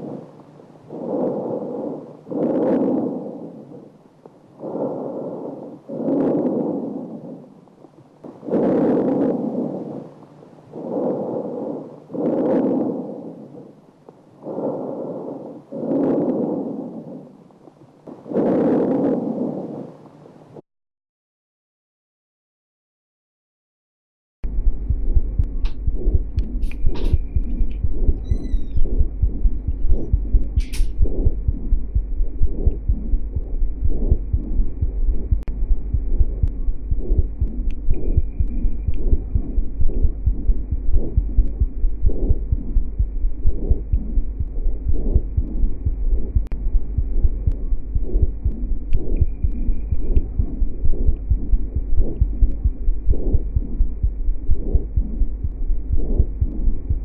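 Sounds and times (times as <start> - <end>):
heartbeat through stethoscope: 0.0 - 10.1, 10.7 - 19.9, 24.4 - 57.0
steady low hum: 0.0 - 20.6, 24.4 - 57.0.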